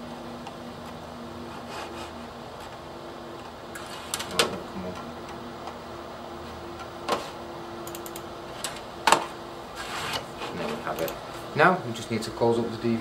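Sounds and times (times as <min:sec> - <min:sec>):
cooling fans humming: 0:00.0 - 0:13.0.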